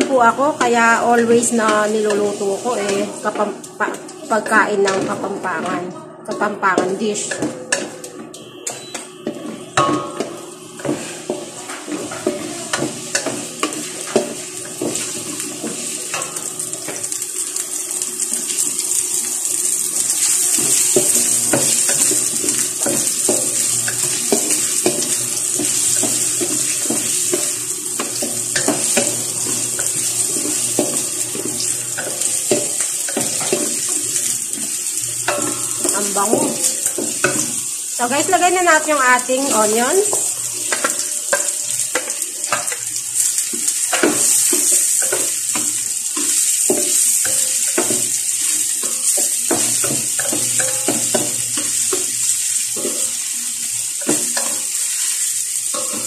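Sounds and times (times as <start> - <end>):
garlic sizzling in hot oil: 0.0 - 56.0.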